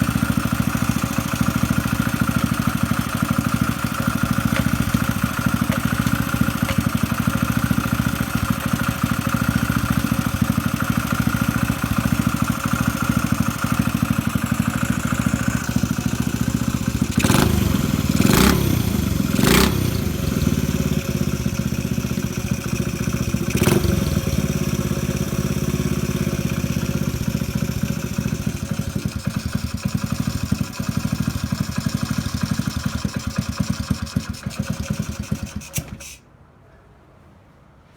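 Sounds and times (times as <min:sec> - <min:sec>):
motorcycle engine running: 0:00.0 - 0:35.7.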